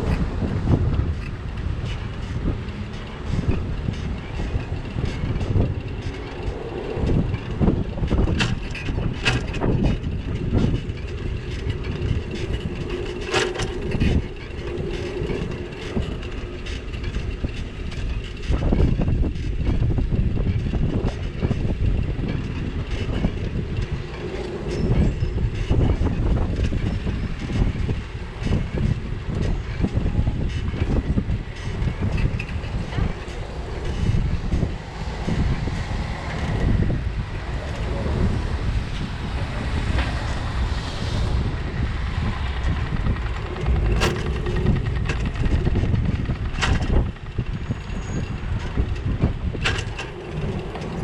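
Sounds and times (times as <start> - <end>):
bike clattering over bumps: 0.0 - 40.7, 41.7 - 51.0
bicycle rumbling and rattling: 0.0 - 51.0
wind noise: 0.0 - 51.0.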